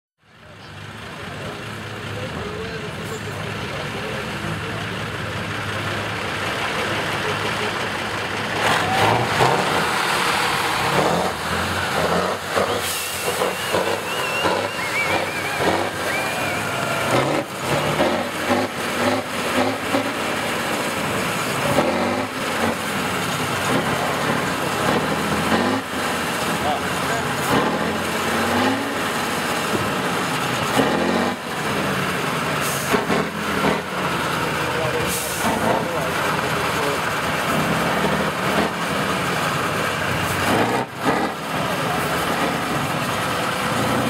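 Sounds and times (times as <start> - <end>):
truck engine revving: 0.4 - 44.0.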